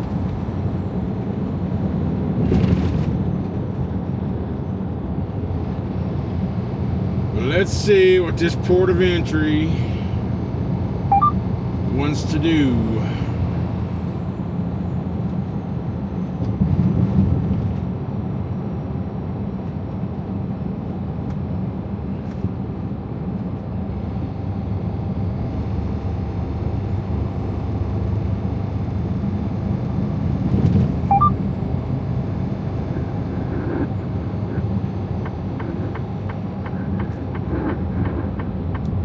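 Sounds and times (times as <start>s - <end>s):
truck engine and tyre drone: 0.0s - 39.0s.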